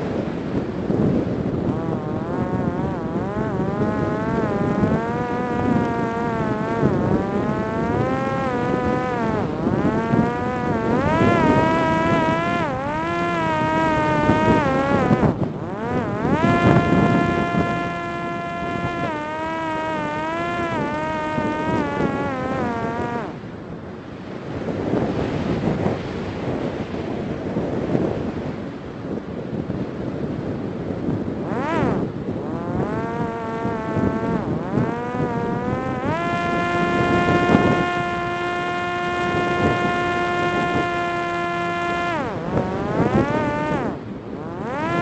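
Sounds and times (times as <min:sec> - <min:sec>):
drone motor and propeller whining: 0:00.0 - 0:45.0
wind on microphone: 0:00.0 - 0:45.0.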